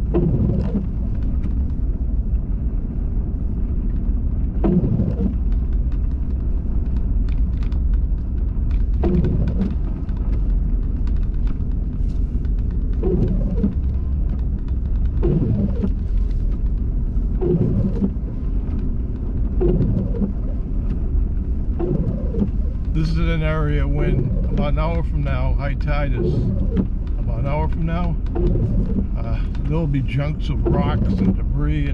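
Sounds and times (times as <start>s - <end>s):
car engine and road rumble: 0.0s - 31.9s
windshield wiper swish: 0.0s - 31.9s.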